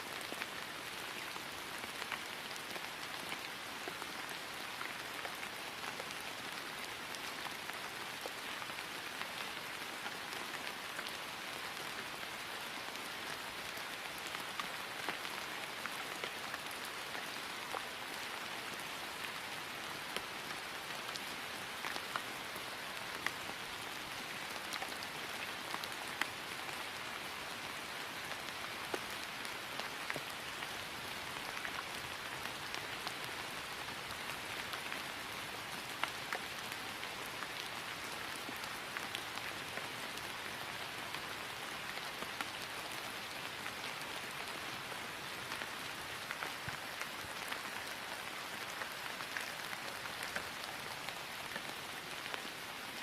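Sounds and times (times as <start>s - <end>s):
rain falling on grass: 0.0s - 53.0s.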